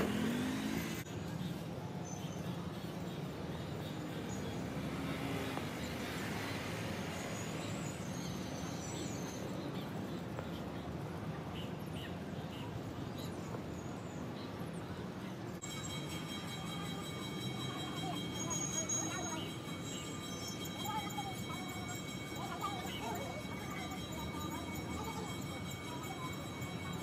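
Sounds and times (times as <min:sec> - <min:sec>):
low hum of distant traffic: 0:00.0 - 0:27.0.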